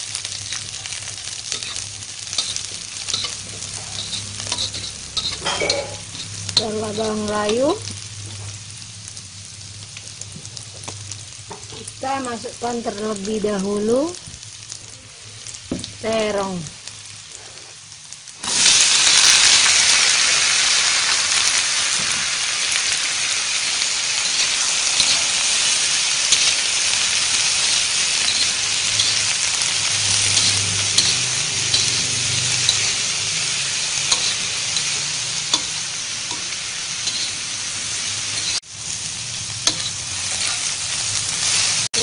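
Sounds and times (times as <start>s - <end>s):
eggplant sizzling in oil: 0.0s - 42.0s.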